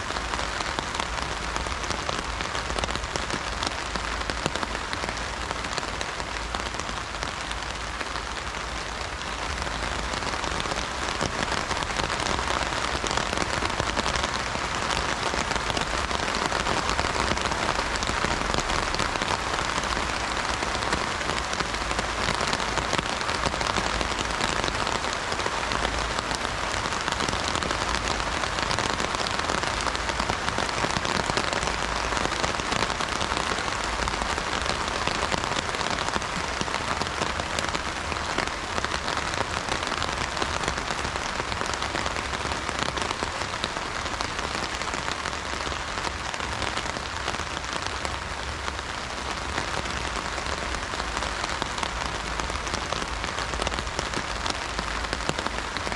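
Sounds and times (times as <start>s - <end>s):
heavy rain on an umbrella: 0.0s - 55.9s.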